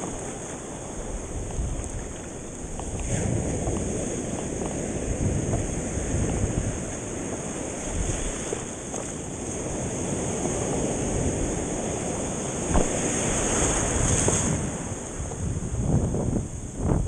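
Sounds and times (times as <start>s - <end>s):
surf washing in and out: 0.0s - 17.0s
wind noise on microphone: 0.0s - 17.0s.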